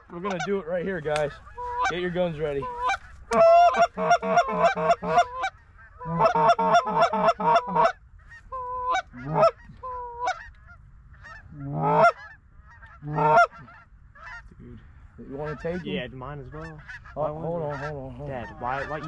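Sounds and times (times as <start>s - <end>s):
goose honking and clucking: 0.0s - 19.0s.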